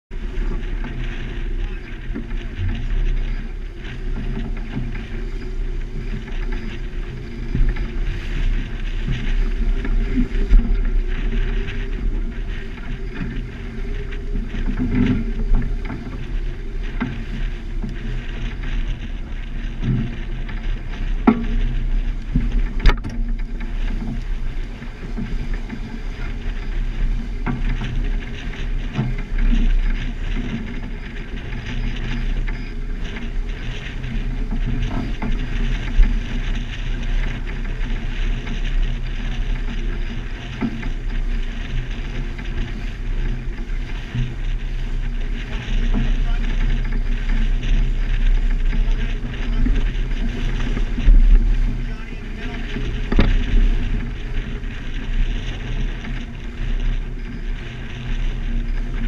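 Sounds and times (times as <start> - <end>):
wind rumbling on microphone: 0.0 - 59.0
water rushing along hull: 0.1 - 59.0.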